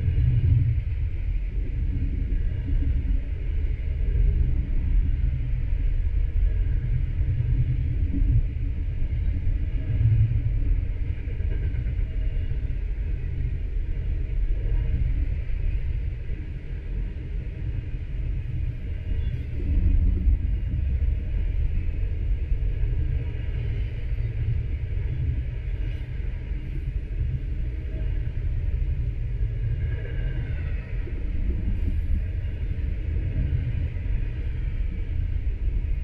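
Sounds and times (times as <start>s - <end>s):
steel wheels rumbling on rails: 0.0s - 36.0s.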